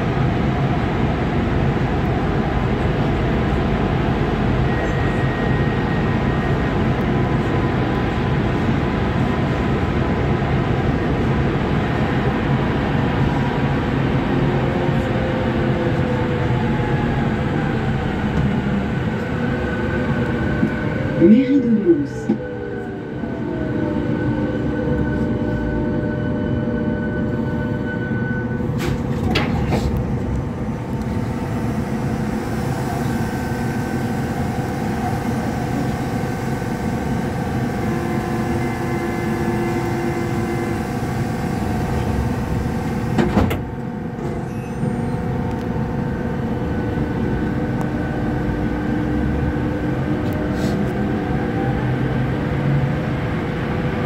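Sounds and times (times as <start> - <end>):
metro train rumble: 0.0 - 54.0.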